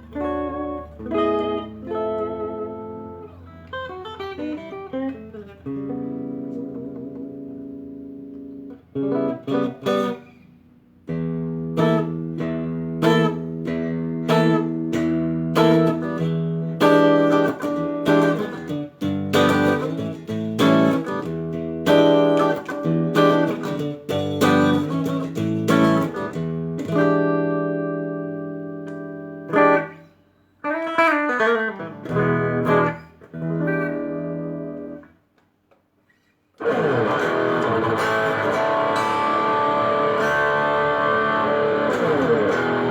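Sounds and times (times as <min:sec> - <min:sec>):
electric guitar playing: 0:00.0 - 0:35.4, 0:36.1 - 0:42.9.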